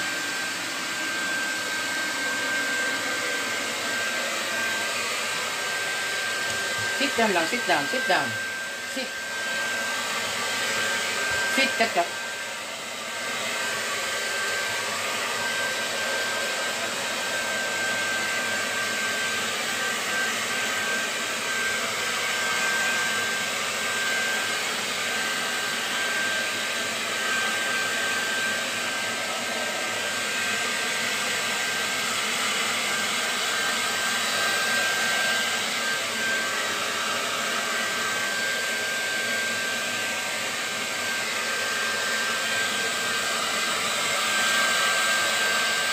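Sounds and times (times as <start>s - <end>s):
hair dryer running: 0.0s - 45.9s.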